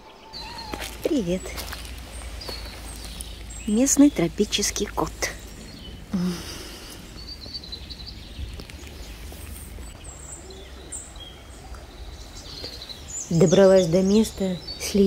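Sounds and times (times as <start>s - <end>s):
faint bird chirps: 0.0s - 15.0s
low outdoor rumble: 0.0s - 15.0s.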